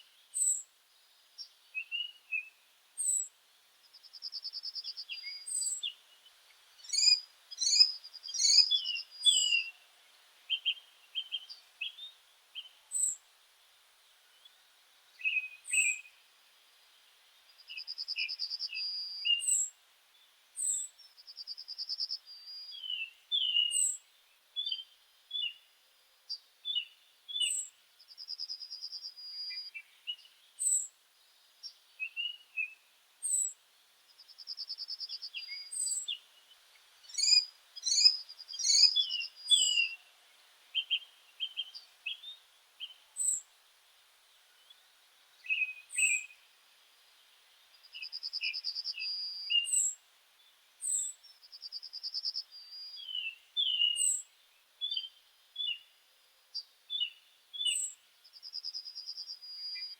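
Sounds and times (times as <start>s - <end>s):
songbirds singing and calling: 0.0s - 59.9s.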